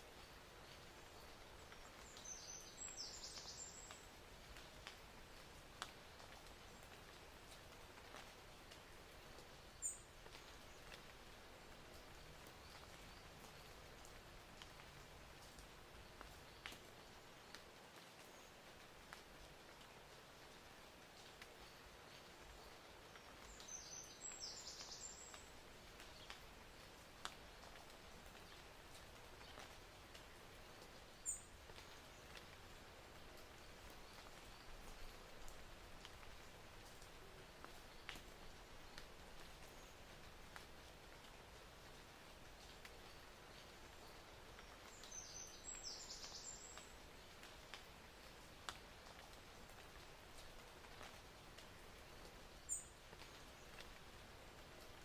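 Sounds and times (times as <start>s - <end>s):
faint outdoor hiss: 0.0s - 55.0s.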